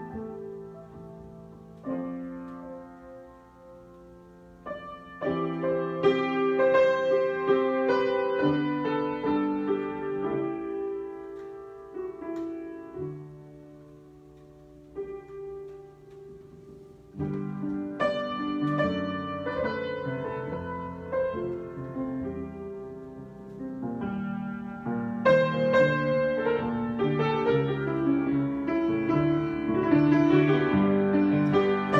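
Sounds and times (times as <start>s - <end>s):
solo piano chords: 0.0s - 31.9s.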